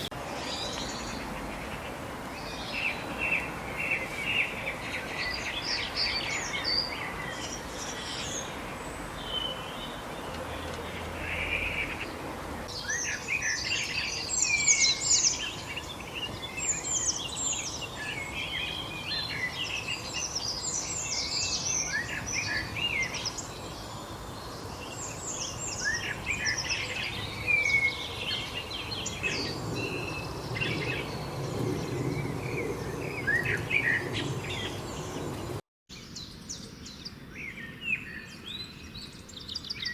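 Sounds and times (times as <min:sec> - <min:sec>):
birds chirping and calling: 0:00.0 - 0:39.9
steady background hiss: 0:00.0 - 0:39.9.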